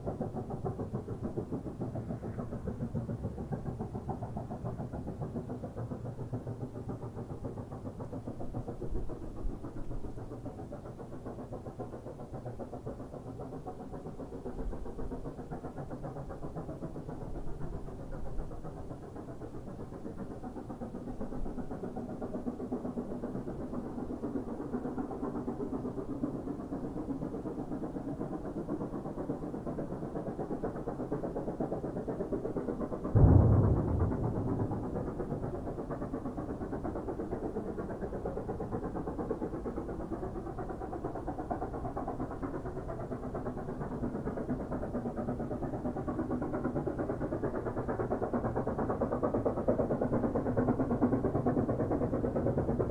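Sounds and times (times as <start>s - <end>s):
steam locomotive rumbling: 0.0s - 52.9s.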